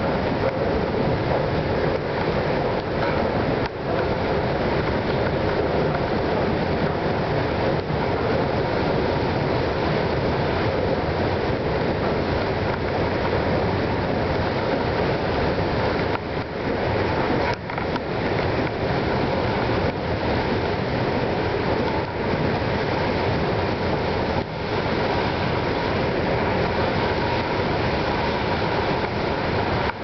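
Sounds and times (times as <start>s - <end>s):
moving walkway running: 0.0s - 30.0s.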